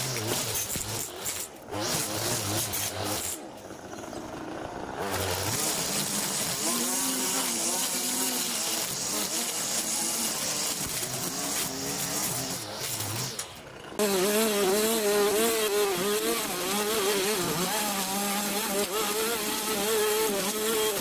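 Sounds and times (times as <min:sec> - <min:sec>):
string trimmer cutting grass: 0:00.0 - 0:21.0.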